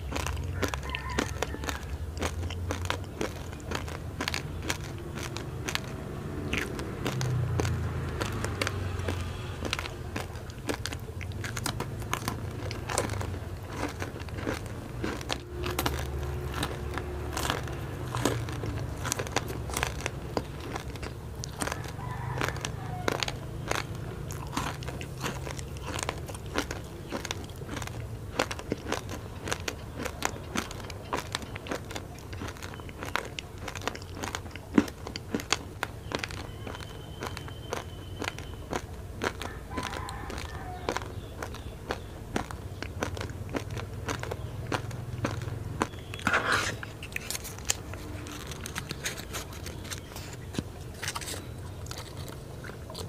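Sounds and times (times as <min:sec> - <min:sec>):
candy stick crunching: 0:00.0 - 0:53.0.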